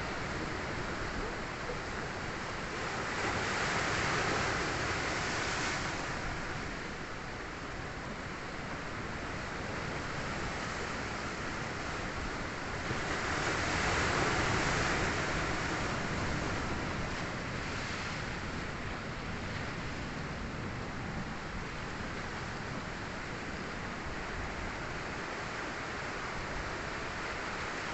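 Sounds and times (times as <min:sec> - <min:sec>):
sea surf washing in: 0:00.0 - 0:27.9.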